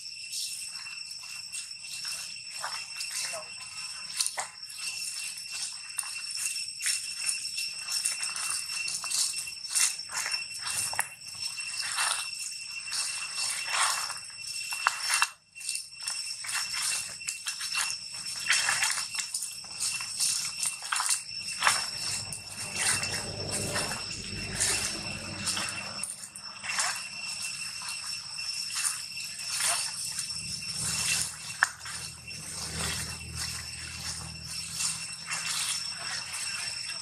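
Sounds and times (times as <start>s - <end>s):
footsteps on dry leaves: 0.0s - 37.0s
insect drone: 0.0s - 37.0s.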